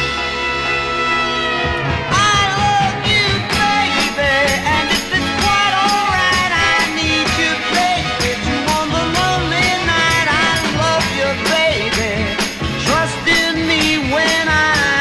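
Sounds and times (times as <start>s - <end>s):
sung vocal melody: 0.0s - 15.0s.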